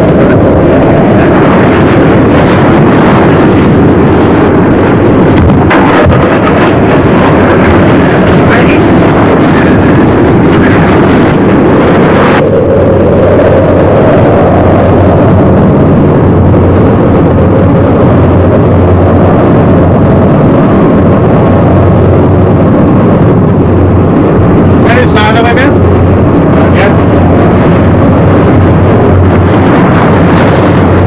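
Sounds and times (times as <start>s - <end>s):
boat engine rumbling: 0.0s - 31.0s
sea noise: 0.0s - 31.0s
wind: 0.0s - 31.0s.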